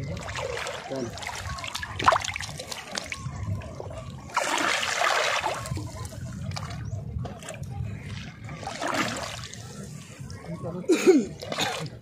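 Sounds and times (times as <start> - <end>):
shallow water splashing: 0.0 - 10.5
rush of water: 0.0 - 12.0.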